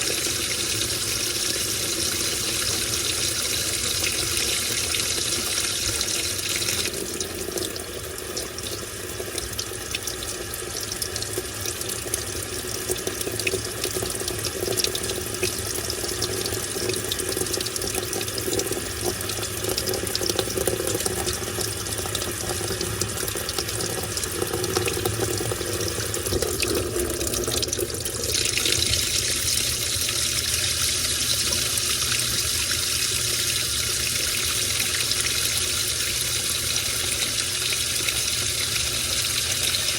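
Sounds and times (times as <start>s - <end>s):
water pouring into washing machine: 0.0s - 39.9s.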